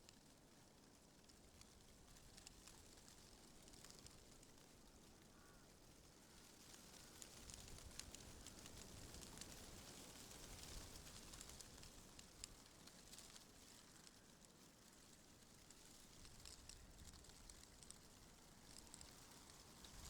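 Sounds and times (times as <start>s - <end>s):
leaves crackling ticks: 0.0s - 20.0s
wind rustling through leaves: 0.1s - 20.0s.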